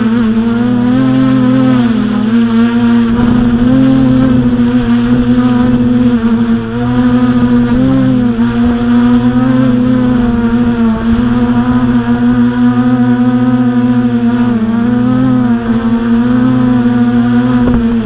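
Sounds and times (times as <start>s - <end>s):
quadcopter motors droning: 0.0s - 18.0s.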